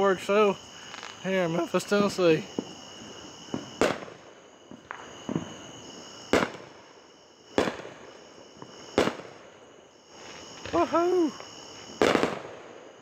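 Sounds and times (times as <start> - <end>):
insects chirring: 0.0 - 13.0
soft fireworks pops: 0.8 - 6.8, 7.5 - 9.4, 10.2 - 12.8
fireworks bangs: 0.8 - 9.5, 10.2 - 13.0.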